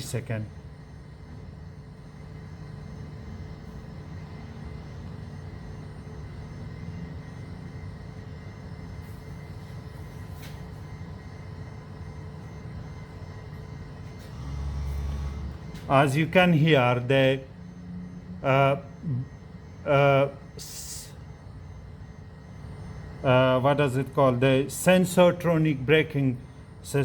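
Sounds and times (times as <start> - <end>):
hydraulic unit humming: 0.0 - 27.0.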